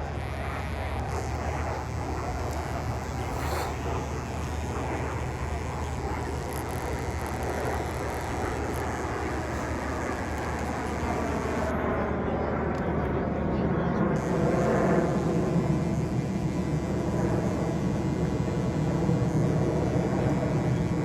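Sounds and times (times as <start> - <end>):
jet aircraft engines rumbling: 0.0 - 21.0.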